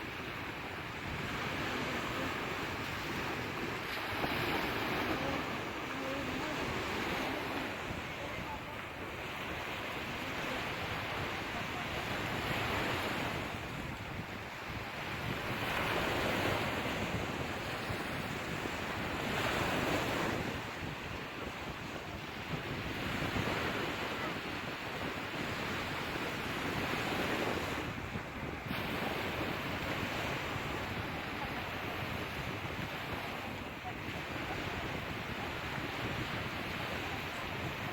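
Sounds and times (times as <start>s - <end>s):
sea waves surf: 0.0s - 37.9s.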